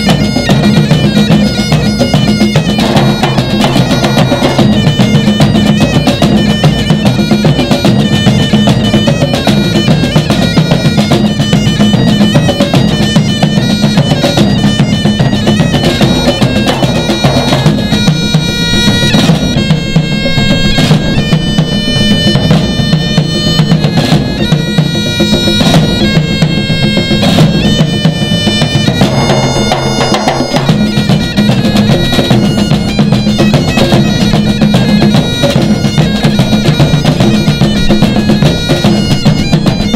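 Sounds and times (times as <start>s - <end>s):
bagpipe playing a tune: 0.0s - 39.9s
drum band beating: 0.0s - 39.9s.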